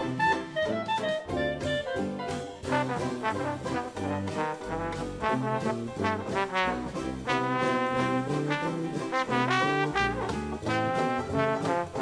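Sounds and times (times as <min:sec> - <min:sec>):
jazzy brass music with beat: 0:00.0 - 0:12.0.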